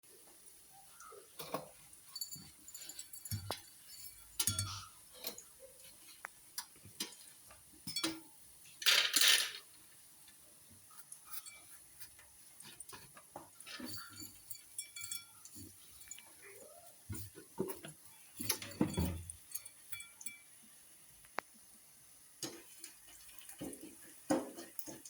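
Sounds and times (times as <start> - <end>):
dishes and utensils clinking: 0.8 - 9.7, 10.9 - 20.6, 22.4 - 25.0.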